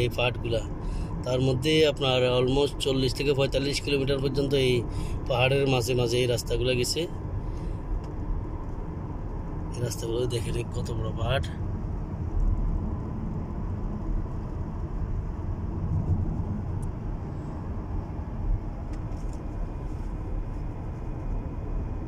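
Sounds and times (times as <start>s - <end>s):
road noise inside car cabin: 0.0s - 22.0s.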